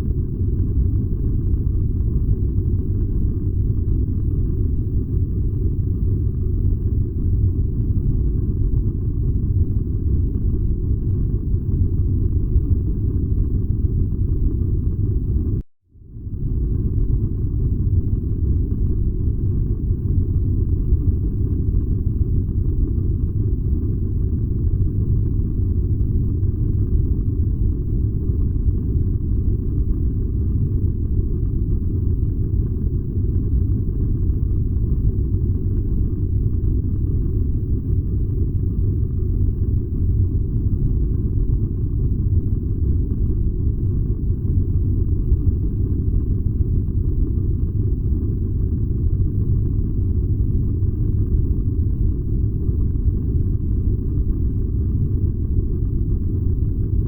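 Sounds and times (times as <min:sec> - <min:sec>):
furnace burning low rumble: 0:00.0 - 0:57.0.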